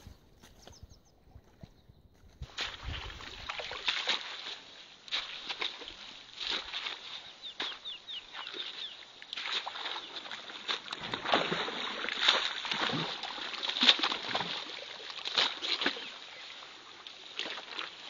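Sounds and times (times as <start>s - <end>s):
footsteps squelching through mud: 0.0s - 18.0s
feet splashing in shallow water: 2.3s - 18.0s.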